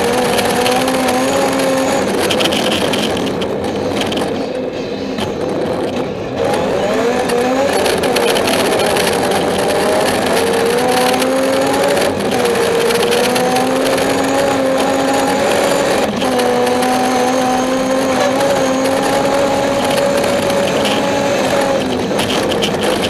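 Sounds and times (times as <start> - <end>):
car engine at high revs: 0.0 - 23.0
tyre noise on snowy road: 0.0 - 23.0.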